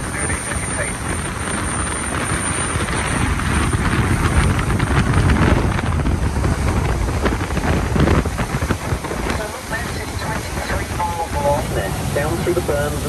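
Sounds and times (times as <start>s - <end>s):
water rushing in boat wake: 0.0s - 13.0s
wind buffeting microphone: 0.0s - 13.0s.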